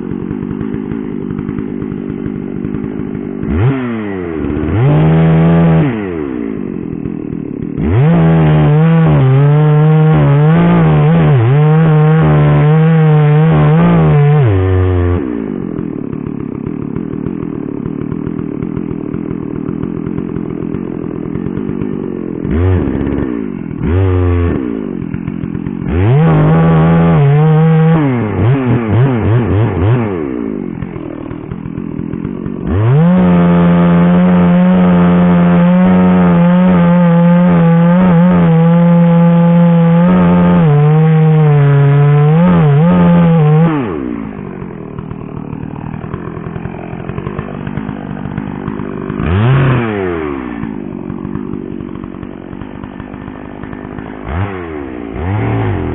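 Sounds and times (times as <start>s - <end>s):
chainsaw idling and revving: 0.0s - 55.9s.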